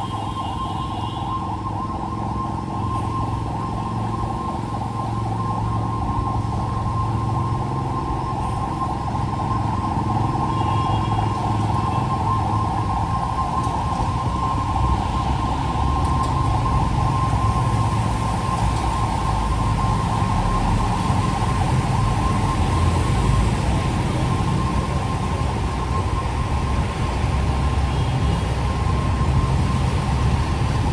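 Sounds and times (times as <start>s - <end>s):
constant high tone: 0.0s - 30.9s
vehicle engines running: 1.4s - 30.9s.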